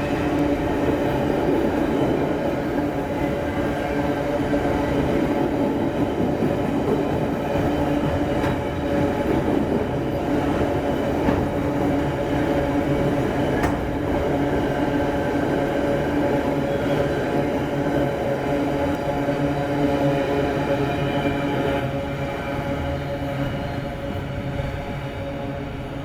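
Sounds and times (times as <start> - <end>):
freight train rumbling by: 0.0 - 26.0.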